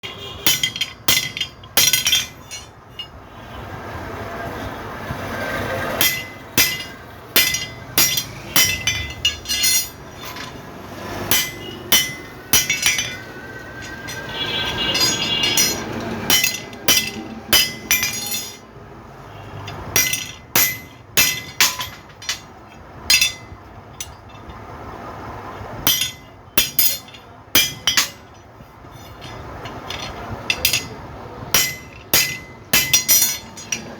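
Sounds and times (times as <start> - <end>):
clinking metal strikes: 0.4 - 3.2, 5.9 - 18.7, 19.6 - 24.6, 25.8 - 33.9.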